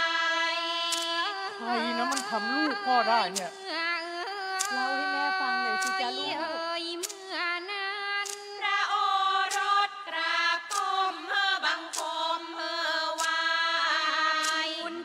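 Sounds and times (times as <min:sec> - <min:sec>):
classical singing with ornamented notes: 0:00.0 - 0:15.0.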